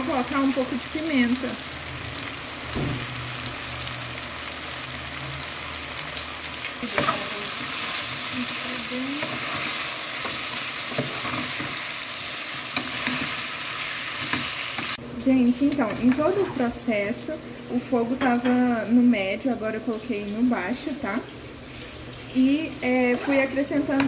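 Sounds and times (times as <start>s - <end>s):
food sizzling in a pot: 0.0s - 24.0s.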